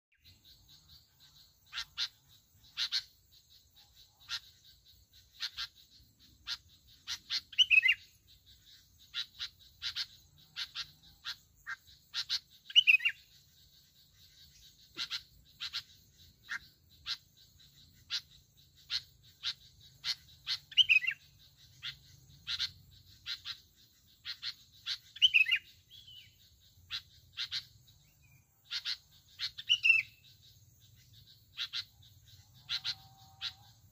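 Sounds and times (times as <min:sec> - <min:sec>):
bird chirping: 0:00.1 - 0:33.9
bird warbling: 0:01.3 - 0:03.2, 0:04.2 - 0:27.7, 0:28.6 - 0:33.9.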